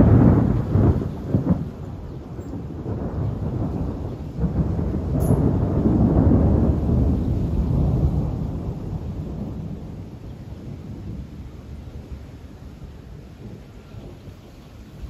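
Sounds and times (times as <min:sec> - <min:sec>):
thunder clap and rumble: 0:00.0 - 0:15.0.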